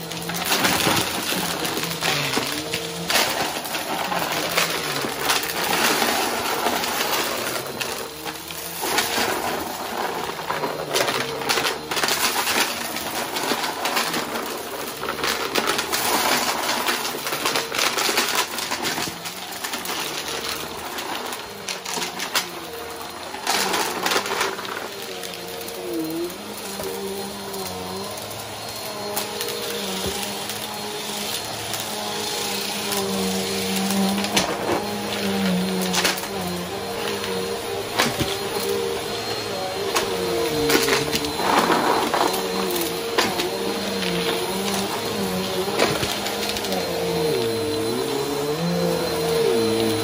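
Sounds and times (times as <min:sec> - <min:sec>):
debris rattling through nozzle: 0:00.0 - 0:50.0
vacuum cleaner running on carpet: 0:00.0 - 0:50.0.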